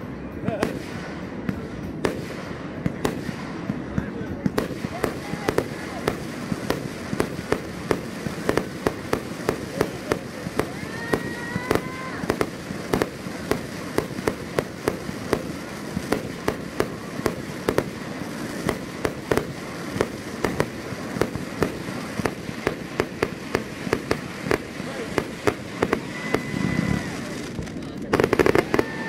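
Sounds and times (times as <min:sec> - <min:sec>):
fireworks bangs: 0:00.0 - 0:29.0
firework whistle: 0:04.6 - 0:29.0.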